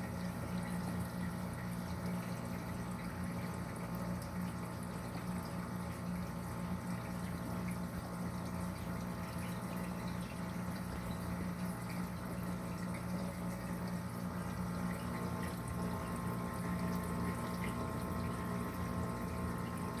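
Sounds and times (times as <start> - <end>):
churning water with crackling: 0.0 - 20.0
pump humming: 0.0 - 20.0.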